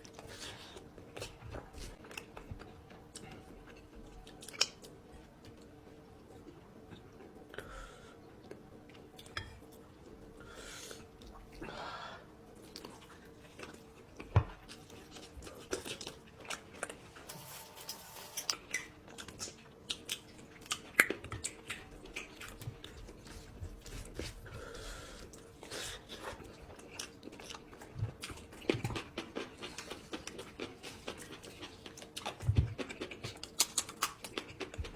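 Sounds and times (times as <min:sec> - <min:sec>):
person chewing food: 0:00.0 - 0:07.6, 0:12.6 - 0:17.2, 0:18.1 - 0:34.9
faint steady hum: 0:00.0 - 0:34.9.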